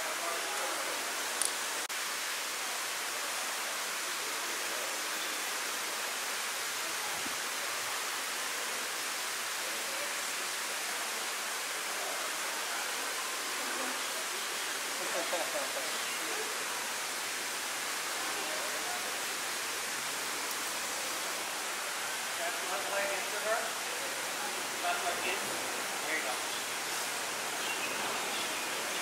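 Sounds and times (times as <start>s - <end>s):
steady rushing hiss: 0.0s - 29.0s.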